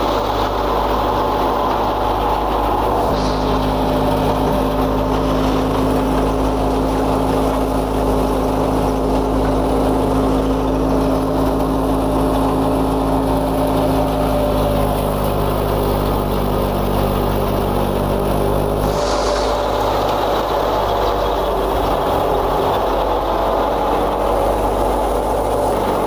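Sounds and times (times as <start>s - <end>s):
thresher mechanical drone: 0.0s - 26.0s.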